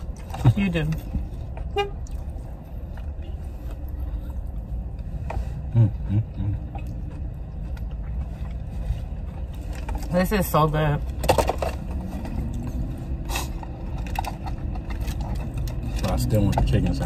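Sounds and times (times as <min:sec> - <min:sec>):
car idling: 0:00.0 - 0:17.0
people eating rustles and clicks: 0:00.0 - 0:17.0.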